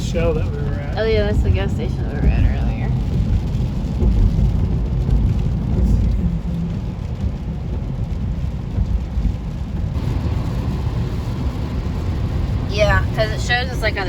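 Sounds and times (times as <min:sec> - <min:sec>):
low steady rumbling: 0:00.0 - 0:14.0.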